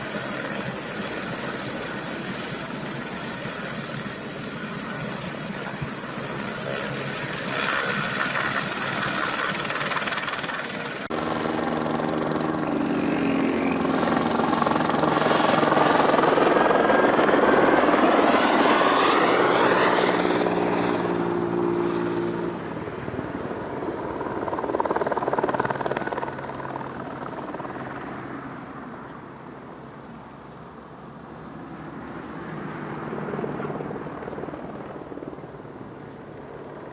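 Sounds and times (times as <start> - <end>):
helicopter passing by: 0.0 - 30.3, 31.0 - 36.9
helicopter turbine whine: 0.0 - 32.0, 32.8 - 36.9.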